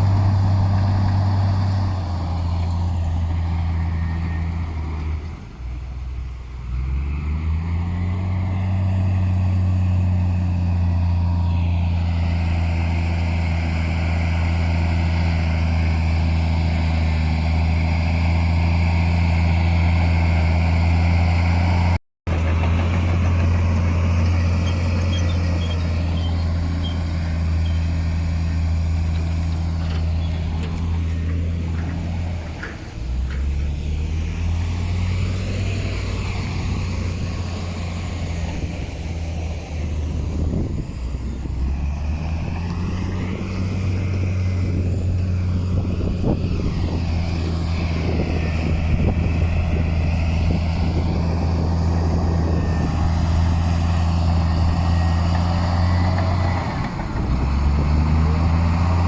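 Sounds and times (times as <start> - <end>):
heavy diesel engine running: 0.0 - 6.6, 7.6 - 59.0.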